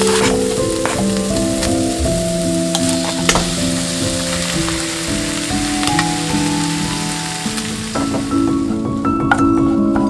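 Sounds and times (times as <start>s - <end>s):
food sizzling in a frying pan: 0.0s - 9.3s
soft background music: 0.0s - 10.0s.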